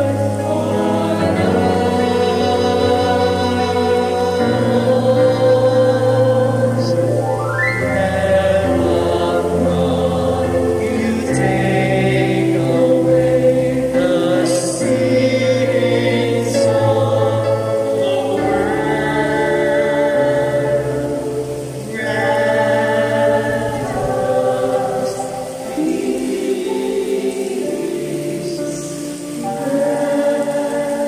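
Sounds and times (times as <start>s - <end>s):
choir singing a hymn: 0.0s - 31.0s.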